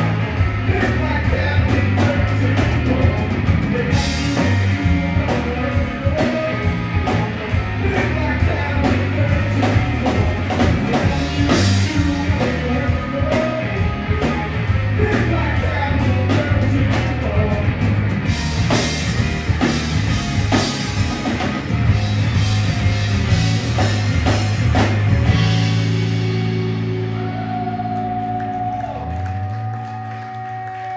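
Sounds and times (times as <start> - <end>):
drum kit: 0.0 - 30.9
electric bass: 0.0 - 30.9
electric guitar: 0.0 - 30.9.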